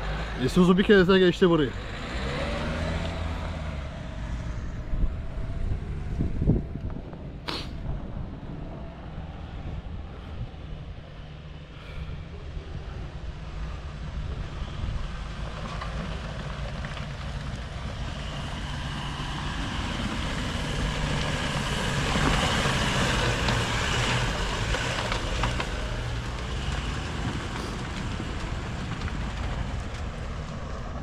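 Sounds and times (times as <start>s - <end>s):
pickup truck engine climbing: 0.0s - 31.0s.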